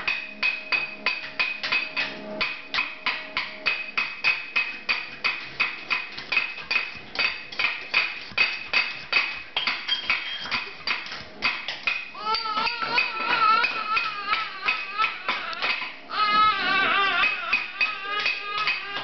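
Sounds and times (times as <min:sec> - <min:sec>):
utensils pounding on table: 0:00.0 - 0:19.0.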